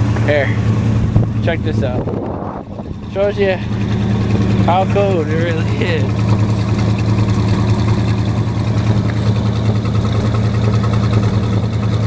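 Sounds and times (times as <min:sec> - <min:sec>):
car engine idling rough: 0:00.0 - 0:12.0.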